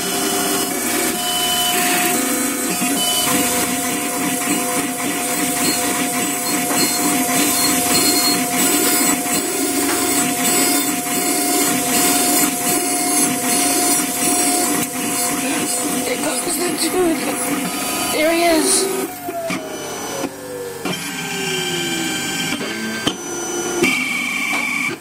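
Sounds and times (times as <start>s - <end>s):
milling machine grinding whine: 0.0s - 25.0s.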